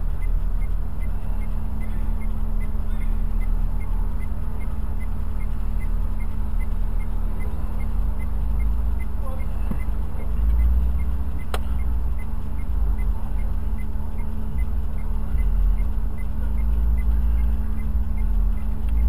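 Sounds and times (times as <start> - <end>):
car engine idling: 0.0 - 19.0
faint regular ticking: 0.0 - 19.0.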